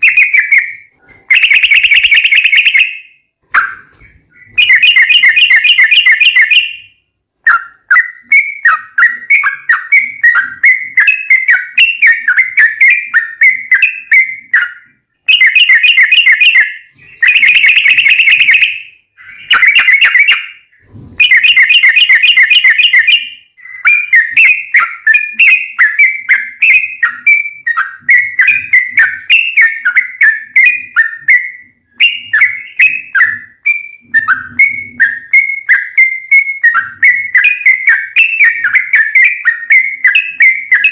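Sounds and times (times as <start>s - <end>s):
bulbul chirping song: 0.0s - 40.9s.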